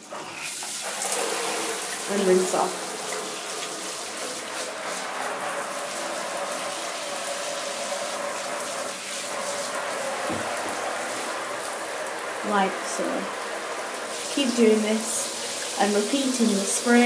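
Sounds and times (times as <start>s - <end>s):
shower water splashing on plastic: 0.0s - 17.0s.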